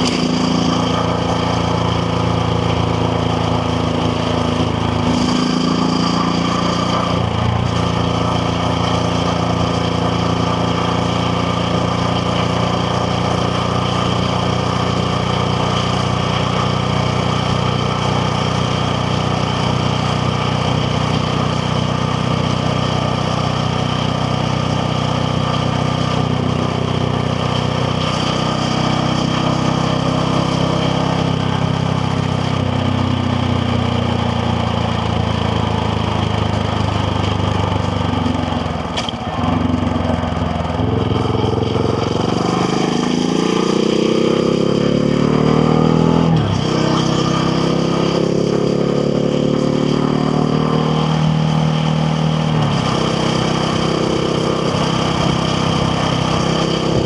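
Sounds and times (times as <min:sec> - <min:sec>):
motorcycle engine on the road: 0:00.0 - 0:57.0.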